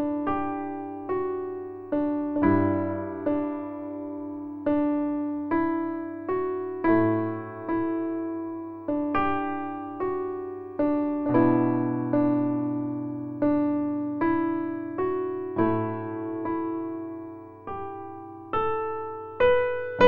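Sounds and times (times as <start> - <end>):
slow piano piece: 0.0 - 20.0.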